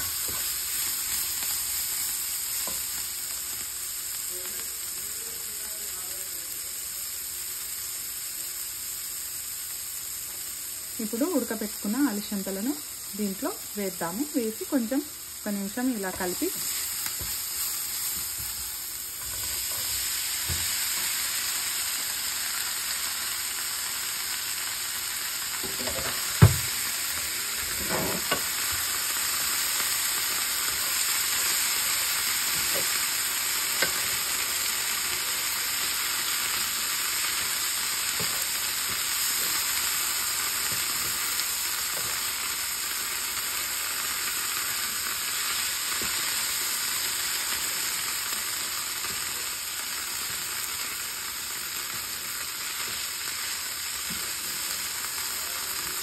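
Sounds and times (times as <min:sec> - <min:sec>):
frying sizzle: 0:00.0 - 0:56.0.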